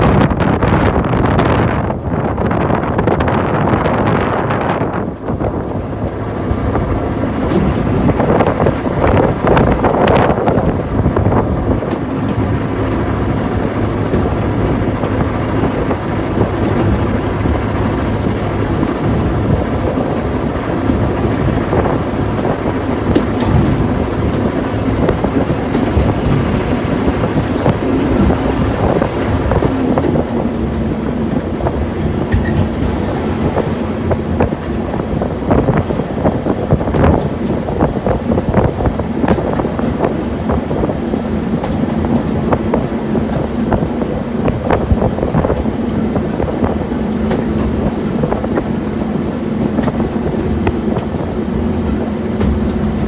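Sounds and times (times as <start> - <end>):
rail noise: 0.0 - 53.0
diesel engine running: 1.9 - 53.0.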